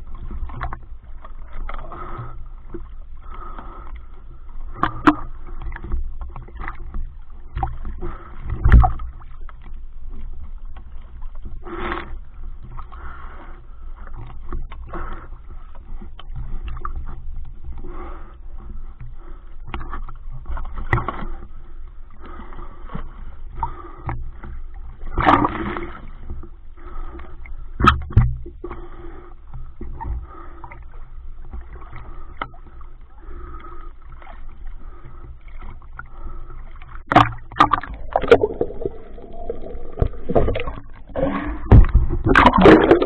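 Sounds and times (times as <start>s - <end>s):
water swishing underwater: 0.0s - 43.0s.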